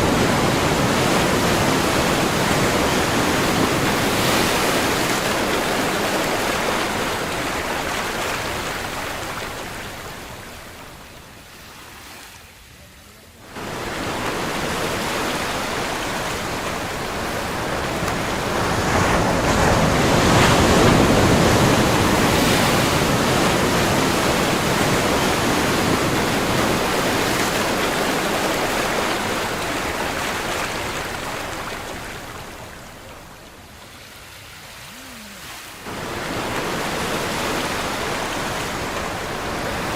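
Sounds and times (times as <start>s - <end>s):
ocean waves: 0.0s - 39.9s.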